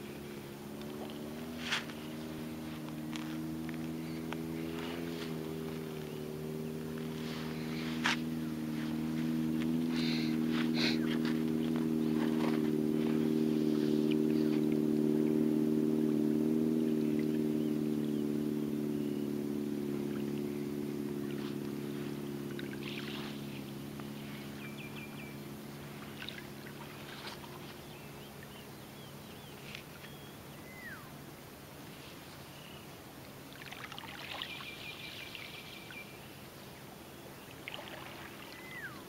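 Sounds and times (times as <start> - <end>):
birds chirping: 0.0 - 33.1, 34.1 - 39.0
engine drone: 0.0 - 39.0.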